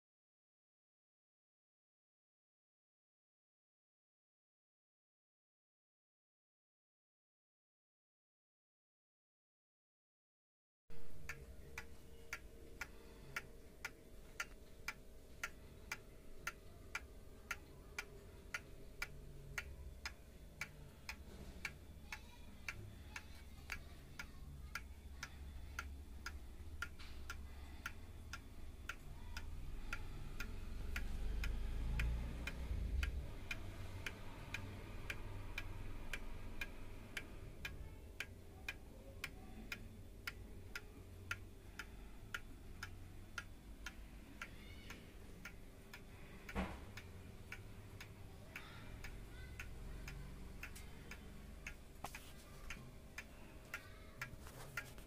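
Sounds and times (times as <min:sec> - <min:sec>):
pendulum clock ticking: 0:10.9 - 0:55.0.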